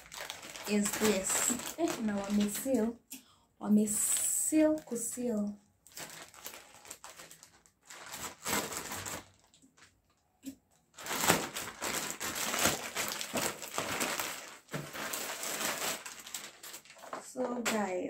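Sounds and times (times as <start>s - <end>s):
plastic bag crinkling: 0.0s - 3.0s, 3.9s - 18.0s.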